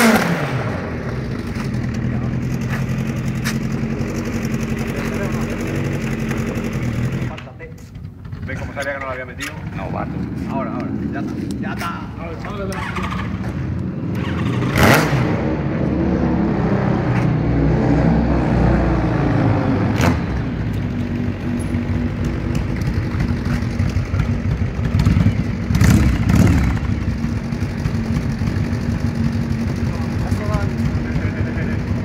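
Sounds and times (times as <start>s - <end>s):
motorcycle engine idling and revving: 0.0s - 32.0s.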